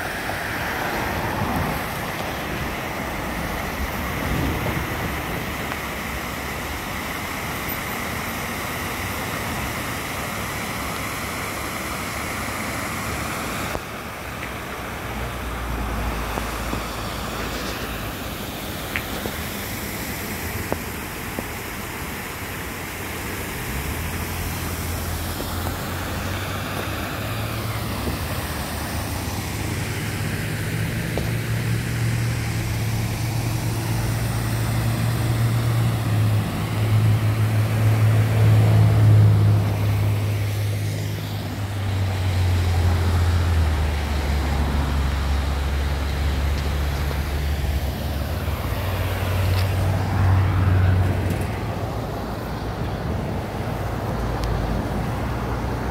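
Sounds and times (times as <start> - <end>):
rain rushing: 0.0 - 55.9.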